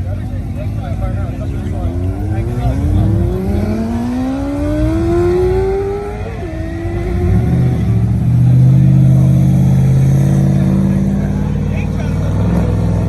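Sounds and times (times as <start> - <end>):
car engine accelerating: 0.0 - 13.0
deep steady engine note: 0.0 - 13.0.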